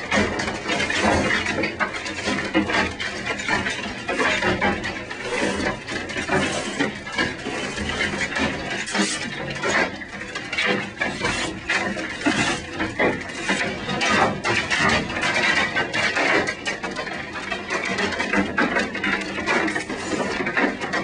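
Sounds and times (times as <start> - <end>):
hailstones pounding building: 0.0 - 21.0.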